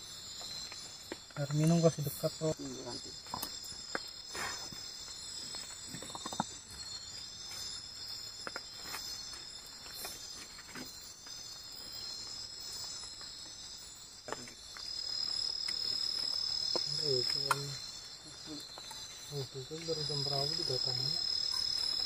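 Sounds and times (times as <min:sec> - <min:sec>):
forest insects chorus: 0:00.0 - 0:22.0.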